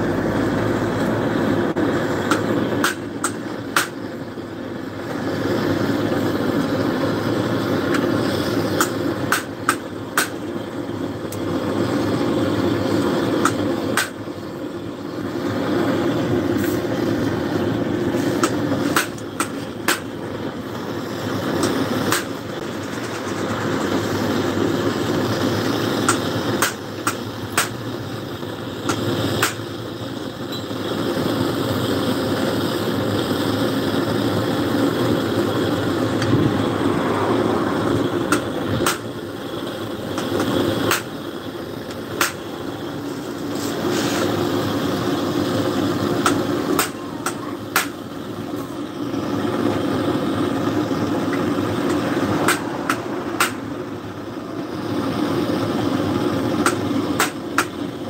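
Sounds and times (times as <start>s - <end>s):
mechanical drone: 0.0s - 58.0s.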